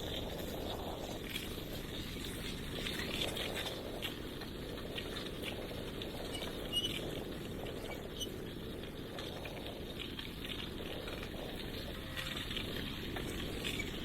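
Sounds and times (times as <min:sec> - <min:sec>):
bicycle tyres rumbling: 0:00.0 - 0:14.0
wind on microphone: 0:00.0 - 0:14.0.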